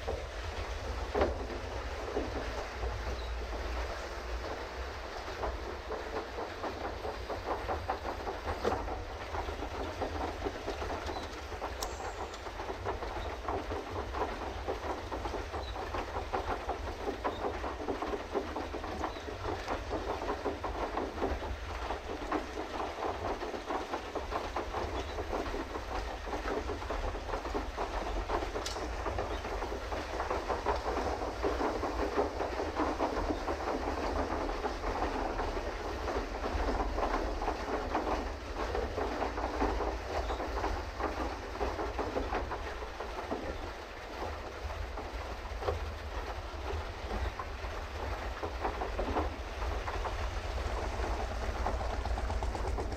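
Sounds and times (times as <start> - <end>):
pedal boat paddle churning water: 0.0 - 52.9.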